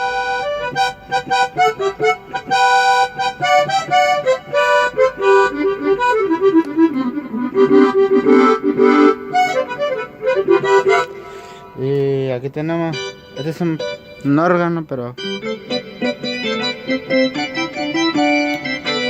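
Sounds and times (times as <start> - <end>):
keyboard accordion melody and chords: 0.0 - 19.0.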